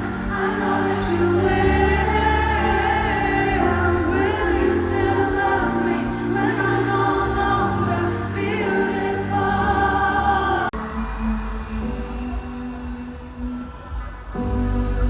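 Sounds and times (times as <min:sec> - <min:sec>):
choir-like singing voices: 0:00.0 - 0:15.0
steady bass line: 0:00.0 - 0:15.0.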